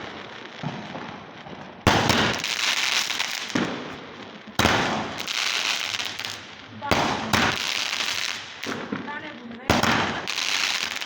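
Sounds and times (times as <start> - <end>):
firework bangs: 0.0 - 11.0
firework crackle: 0.0 - 11.0.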